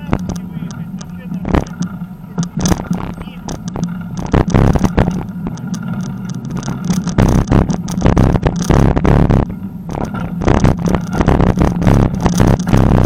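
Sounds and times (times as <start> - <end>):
bicycle tyres on rough path: 0.0 - 13.0
bike knocking and rattling: 0.0 - 13.0
wind rumbling on microphone: 0.0 - 13.0.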